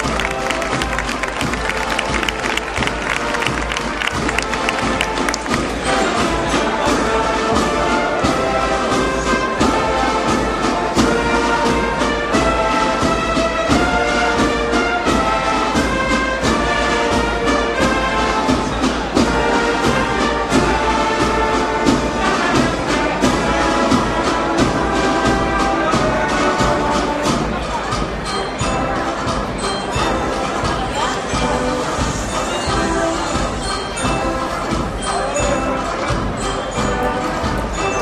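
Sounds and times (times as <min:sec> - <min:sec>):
brass band playing a march: 0:00.0 - 0:38.0.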